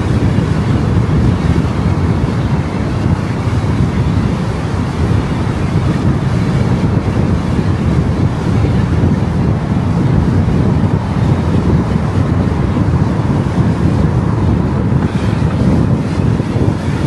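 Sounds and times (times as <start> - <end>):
car wind and road noise: 0.0 - 17.0.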